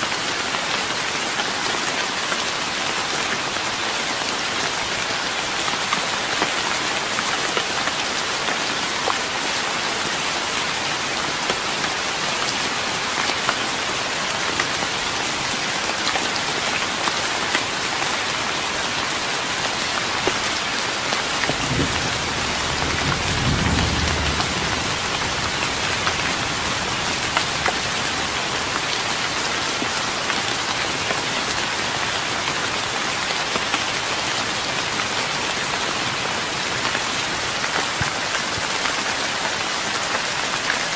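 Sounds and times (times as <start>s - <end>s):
rain pattering on wooden deck: 0.0s - 40.9s.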